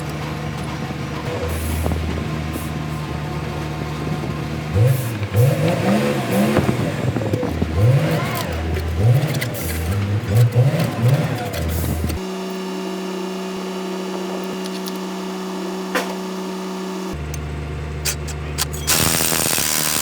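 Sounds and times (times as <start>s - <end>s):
vehicle engine idling and revving: 0.0s - 20.0s.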